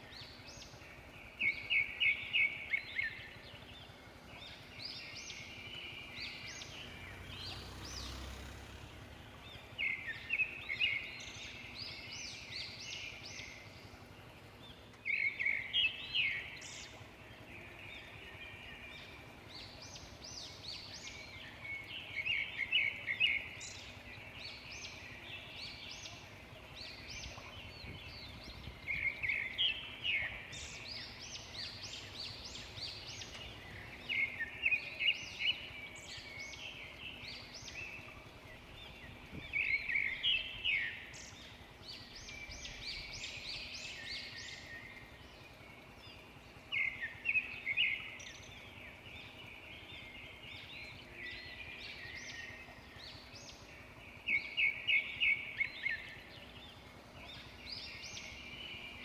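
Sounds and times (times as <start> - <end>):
birds singing: 0.0 - 59.0
steady background hiss: 0.0 - 59.0.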